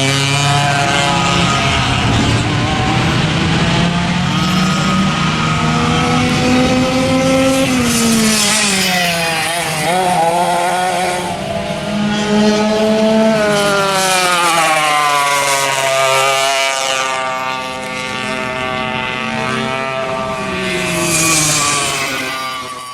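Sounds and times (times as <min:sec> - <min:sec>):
kart engine revving: 0:00.0 - 0:22.9.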